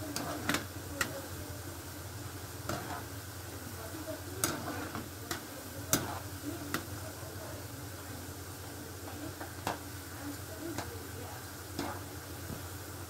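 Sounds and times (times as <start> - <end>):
dough sizzling in oil: 0.0 - 13.0.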